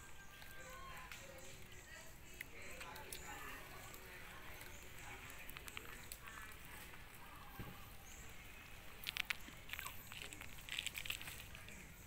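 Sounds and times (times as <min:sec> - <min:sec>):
monkeys chewing food: 0:00.0 - 0:12.0
faint sharp clicks and rustles: 0:00.3 - 0:12.0.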